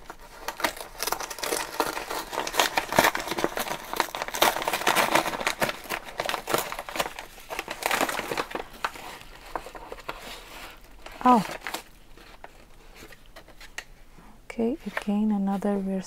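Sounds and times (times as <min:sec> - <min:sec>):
plastic bag tearing: 0:00.0 - 0:13.1
plastic mailer bag crinkling: 0:00.0 - 0:13.7.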